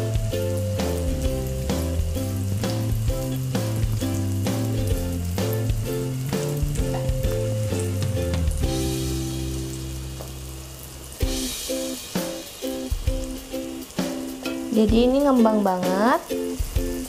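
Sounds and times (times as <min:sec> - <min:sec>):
background music with beat: 0:00.0 - 0:17.0
batter sizzling in hot oil: 0:00.0 - 0:17.0.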